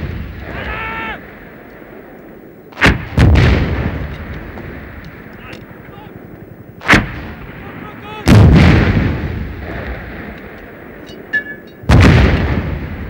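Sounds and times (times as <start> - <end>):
rifle shots with rolling echo: 1.2 - 13.0
sharp crack: 1.6 - 5.9, 6.8 - 13.0.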